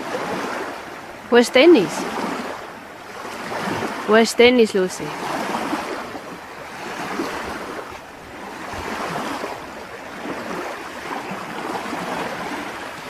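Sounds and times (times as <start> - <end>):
small waves lapping on shore: 0.0 - 13.0.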